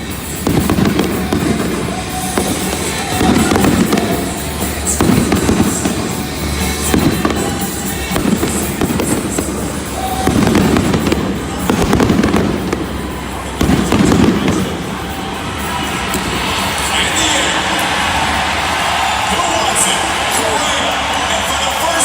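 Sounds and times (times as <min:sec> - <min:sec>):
fireworks booming and crackling: 0:00.0 - 0:22.0
music playing: 0:00.0 - 0:22.0.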